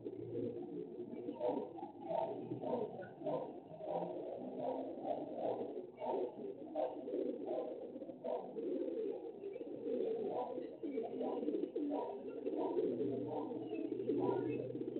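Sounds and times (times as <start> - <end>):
birds cooing: 0.0 - 14.9.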